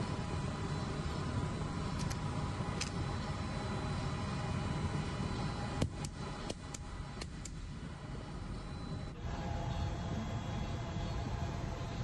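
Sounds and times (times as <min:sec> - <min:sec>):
engine room machinery rumble: 0:00.0 - 0:12.0.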